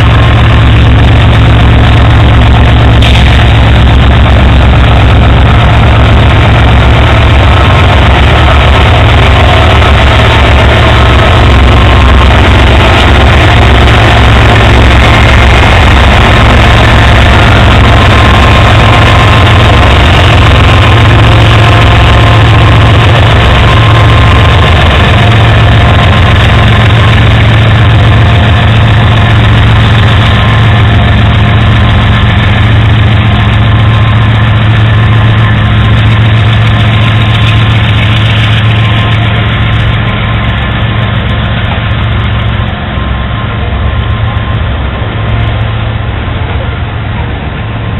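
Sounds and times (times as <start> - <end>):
locomotive engines droning: 0.0 - 47.9.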